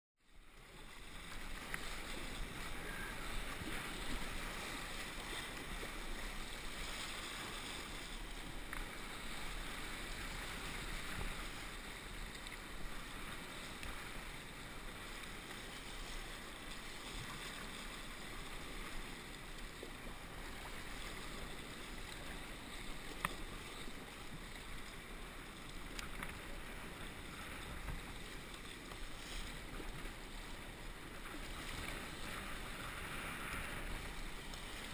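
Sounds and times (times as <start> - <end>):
water washing around kayak: 0.2 - 34.9
wind: 0.2 - 34.9.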